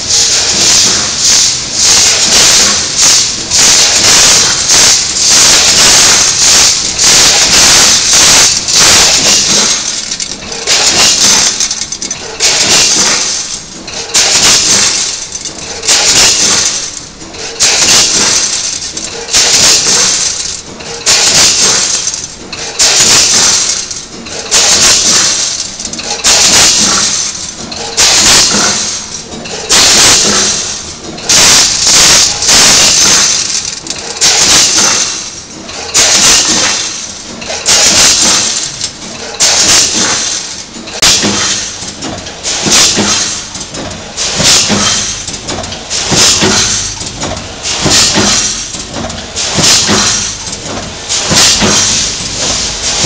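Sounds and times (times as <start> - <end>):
packing machine hissing and rattling: 0.0 - 53.0.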